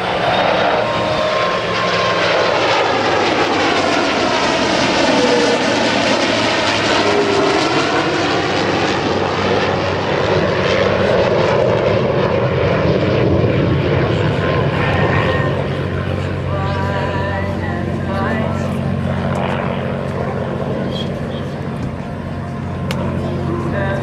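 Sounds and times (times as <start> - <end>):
aircraft flying past: 0.0 - 24.0.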